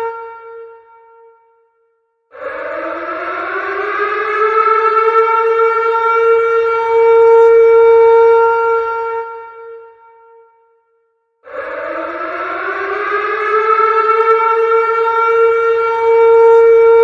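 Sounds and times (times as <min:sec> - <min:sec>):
warning siren wailing: 0:00.0 - 0:01.0, 0:02.3 - 0:09.9, 0:11.4 - 0:17.0.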